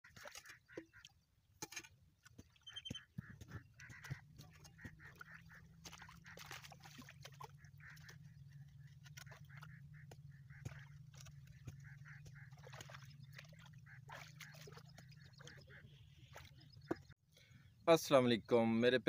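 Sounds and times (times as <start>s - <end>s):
hoe squelching in mud and water: 0.0s - 17.2s.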